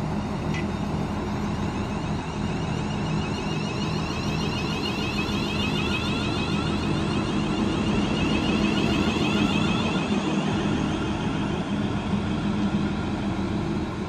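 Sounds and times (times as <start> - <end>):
electric train motors whining: 0.0 - 14.0
low hum: 0.0 - 14.0.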